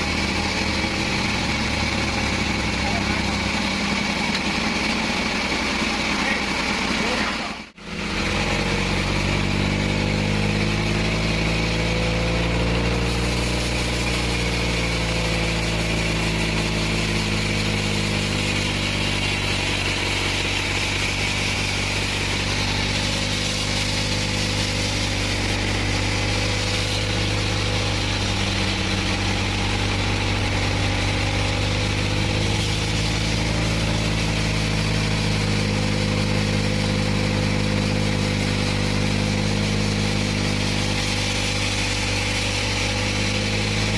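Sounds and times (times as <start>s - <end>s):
engine drone: 0.0s - 43.9s.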